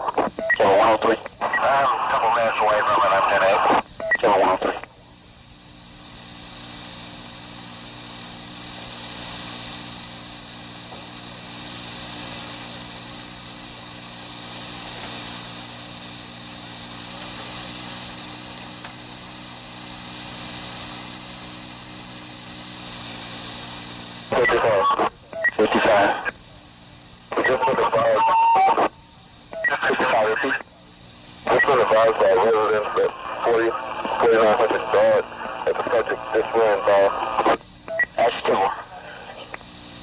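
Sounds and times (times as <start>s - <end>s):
tape hum and hiss: 0.0s - 40.0s.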